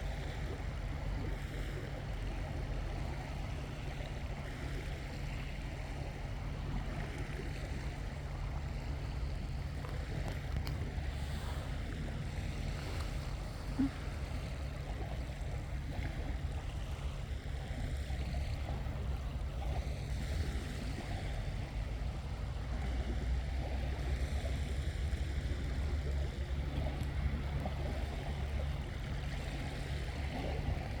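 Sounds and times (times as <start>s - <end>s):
low wind rumble on microphone: 0.0s - 31.0s
sea waves washing onto beach: 0.0s - 31.0s.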